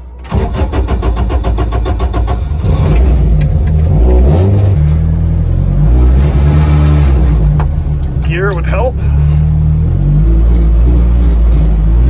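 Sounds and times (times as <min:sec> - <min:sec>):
car engine running: 0:00.2 - 0:12.0.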